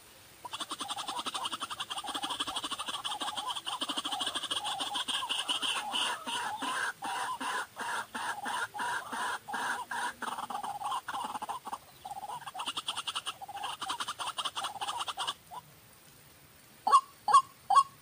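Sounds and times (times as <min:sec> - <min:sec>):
waterhen harsh croaking calls: 0:00.4 - 0:15.6, 0:16.8 - 0:18.0.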